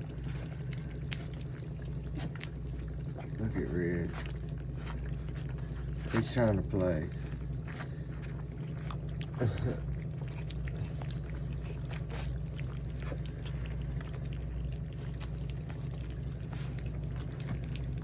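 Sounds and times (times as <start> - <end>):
puppies lapping and chewing: 0.0 - 18.0
steady low hum: 0.0 - 18.0.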